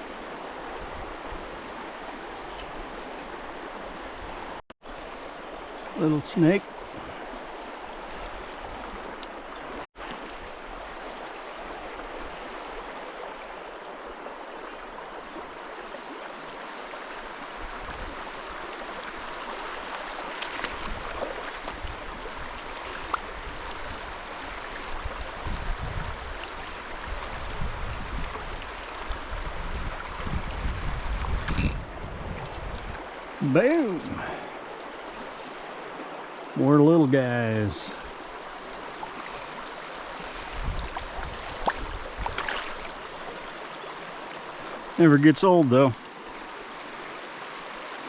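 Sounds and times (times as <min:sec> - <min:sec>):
stream rushing over rocks: 0:00.0 - 0:32.3, 0:33.0 - 0:48.0.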